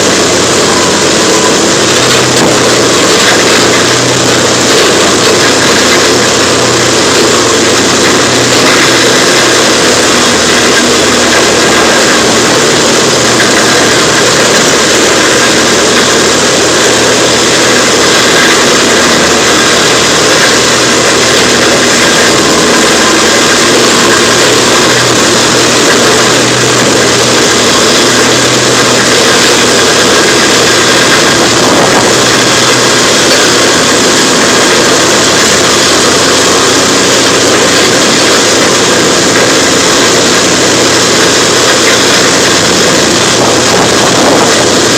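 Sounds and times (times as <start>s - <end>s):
wood chipper running: 0.0s - 44.9s.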